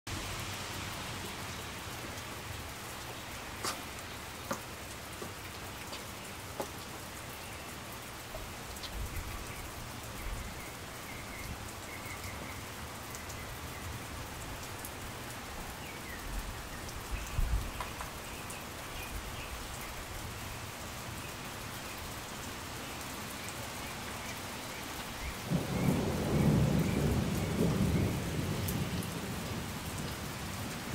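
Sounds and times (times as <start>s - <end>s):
steady rain: 0.1s - 30.9s.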